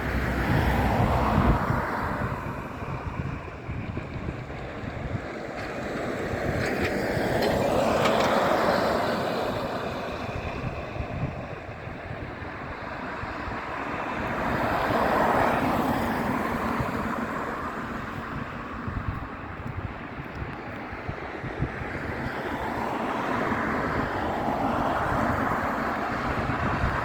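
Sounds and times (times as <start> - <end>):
jet airliner engine noise: 0.0 - 27.0
wind on microphone: 0.0 - 27.0.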